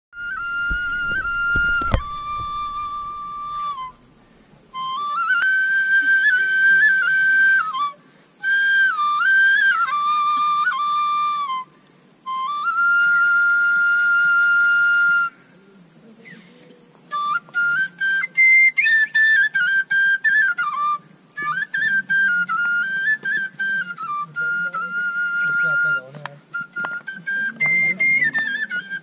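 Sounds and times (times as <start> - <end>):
whistle playing simple tune: 0.1 - 4.1, 4.7 - 15.4, 17.0 - 29.0.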